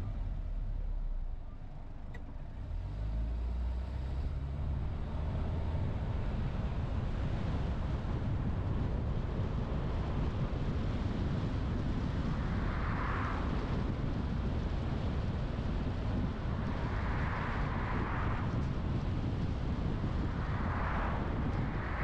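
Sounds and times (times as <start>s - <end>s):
car tyre and engine rumble: 0.0s - 22.0s.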